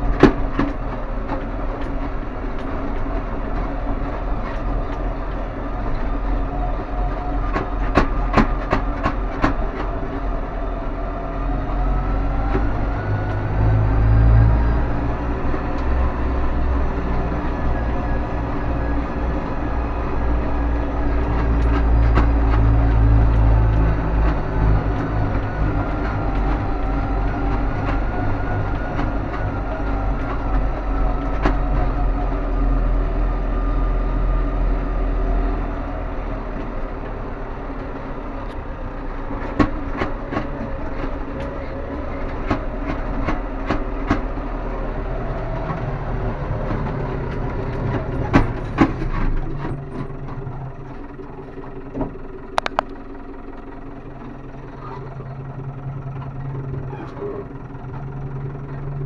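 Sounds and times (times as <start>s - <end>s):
rattles and knocks: 0.0s - 32.2s, 38.4s - 59.0s
tractor engine running: 0.0s - 59.0s.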